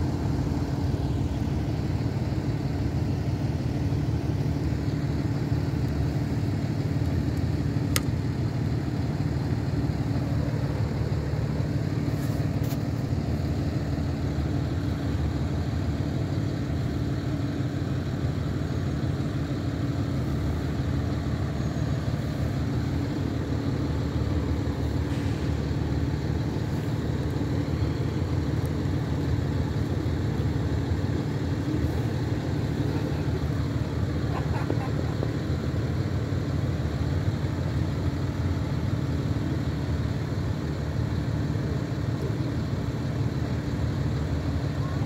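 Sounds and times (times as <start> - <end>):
bus engines idling: 0.0 - 45.0.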